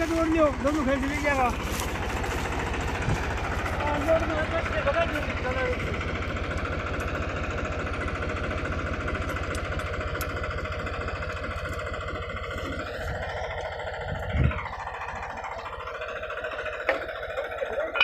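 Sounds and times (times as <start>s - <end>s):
tractor diesel engine chugging: 0.0s - 18.0s.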